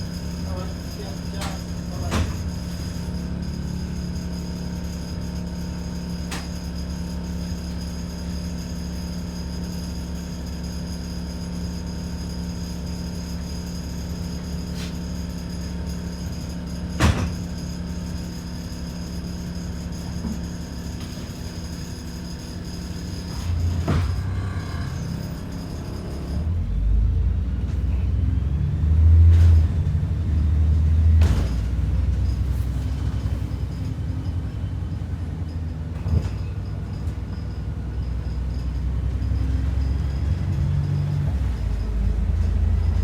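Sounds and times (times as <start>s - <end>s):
bus engine running: 0.0s - 43.0s.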